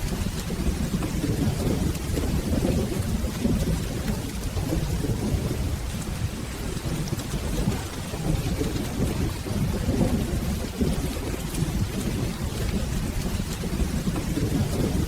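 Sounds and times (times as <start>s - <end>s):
rolling thunder rumble: 0.0s - 15.0s
steady rain: 0.0s - 15.0s.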